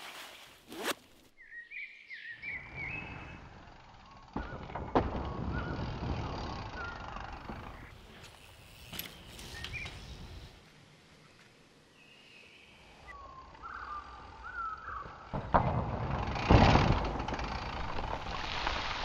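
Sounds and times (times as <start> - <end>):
bike tyres rushing through dirt: 2.4 - 11.3, 12.0 - 19.0.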